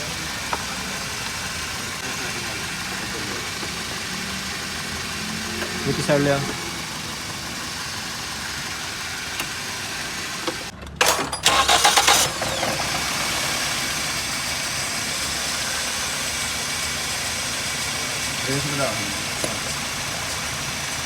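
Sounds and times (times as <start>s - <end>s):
car engine running: 0.0s - 21.0s
starter cranking: 0.0s - 21.0s.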